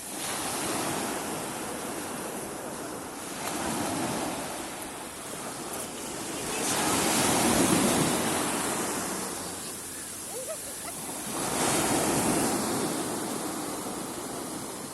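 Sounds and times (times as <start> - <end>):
sea waves breaking on beach: 0.0 - 14.9.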